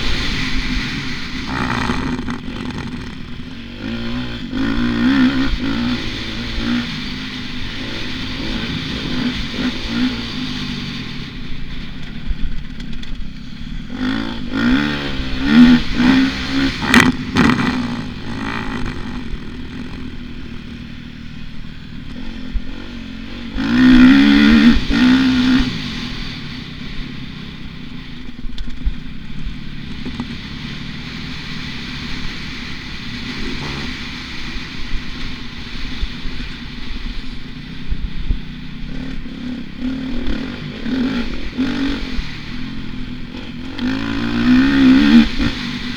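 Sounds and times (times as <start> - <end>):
motocross bike engine revving: 0.0 - 28.3, 28.9 - 45.9.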